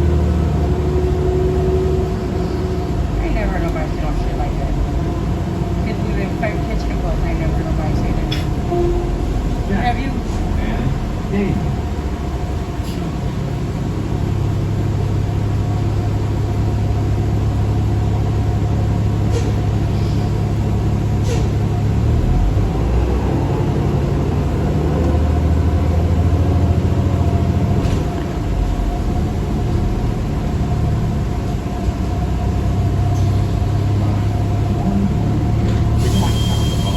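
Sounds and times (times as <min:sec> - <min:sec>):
bus engine and drivetrain: 0:00.0 - 0:36.9.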